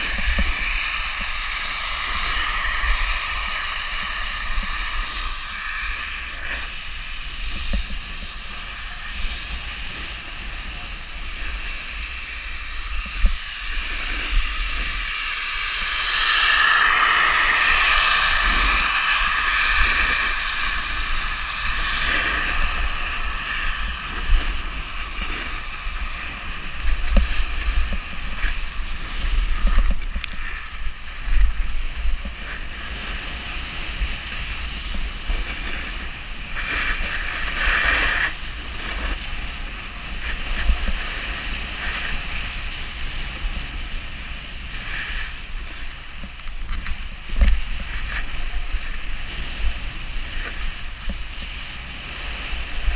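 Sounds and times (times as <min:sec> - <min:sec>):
snowboard scraping snow: 0:00.0 - 0:52.9
wind buffeting microphone: 0:00.0 - 0:52.9.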